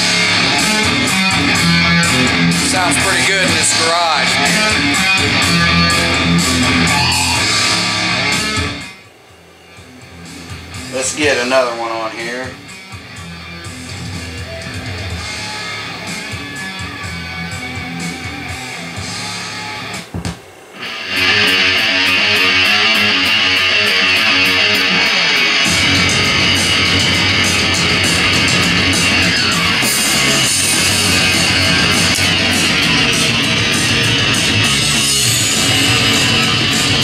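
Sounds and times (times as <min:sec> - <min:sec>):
guitar music over speakers: 0:00.0 - 0:37.0.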